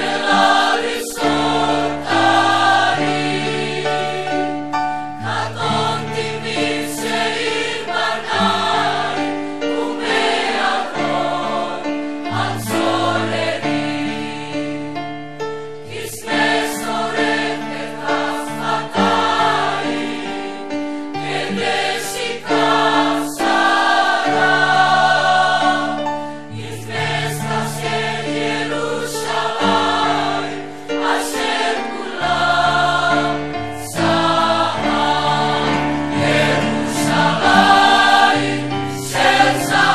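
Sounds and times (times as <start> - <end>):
choir singing long chords: 0.0 - 39.9.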